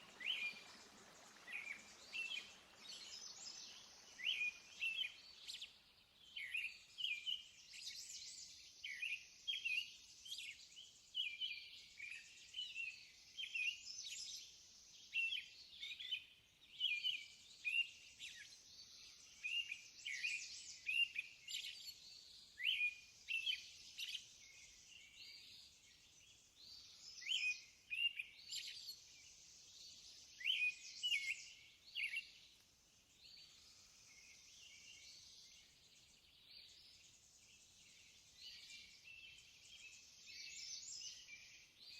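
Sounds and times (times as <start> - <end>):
faint steady hiss: 0.0 - 41.9
small birds chirping: 0.0 - 41.9.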